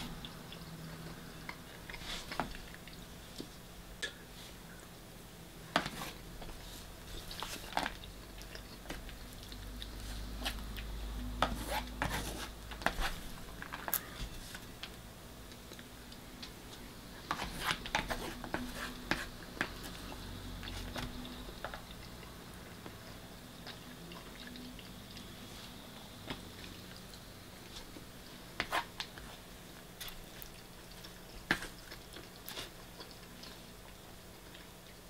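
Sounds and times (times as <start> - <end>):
close-up chewing: 0.0 - 3.7, 6.0 - 12.5, 13.1 - 35.0.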